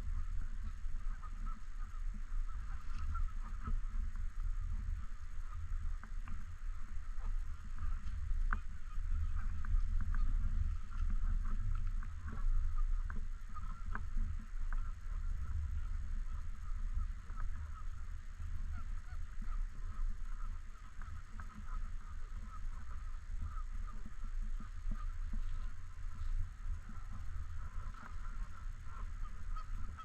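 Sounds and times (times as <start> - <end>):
geese honking: 0.0 - 30.0
steady low rumble: 0.0 - 30.0.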